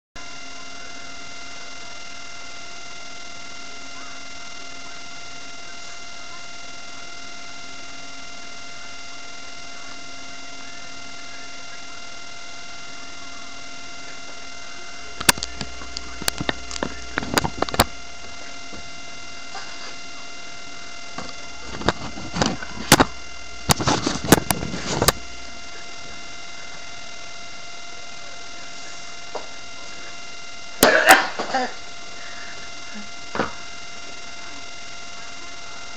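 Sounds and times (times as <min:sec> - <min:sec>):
steady electrical whine: 0:00.2 - 0:35.9.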